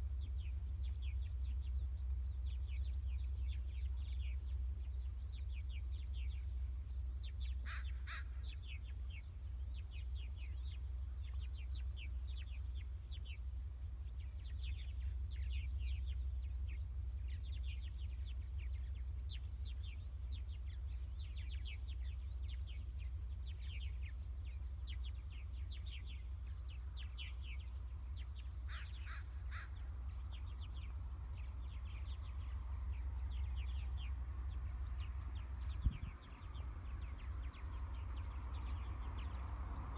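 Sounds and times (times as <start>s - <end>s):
birds chirping: 0.0s - 39.9s
harsh bird calls: 0.0s - 39.9s
steady low rumble: 0.0s - 39.9s.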